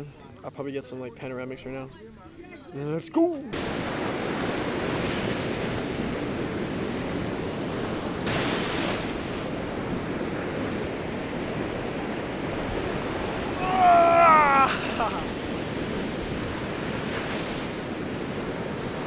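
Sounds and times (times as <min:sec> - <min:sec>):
ocean surf washing on shore: 0:03.5 - 0:19.0.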